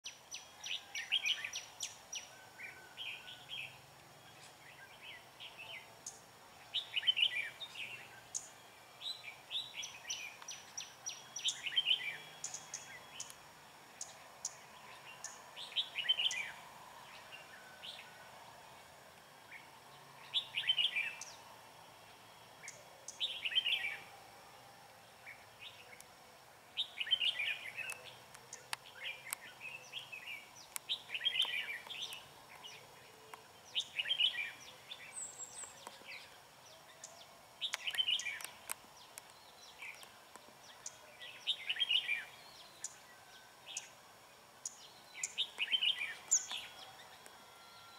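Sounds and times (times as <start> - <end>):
birds singing: 0.0 - 26.1, 26.8 - 47.9.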